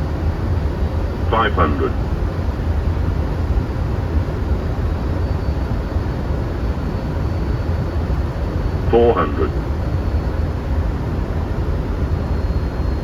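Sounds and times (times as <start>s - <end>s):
airflow and engine noise: 0.0s - 13.0s.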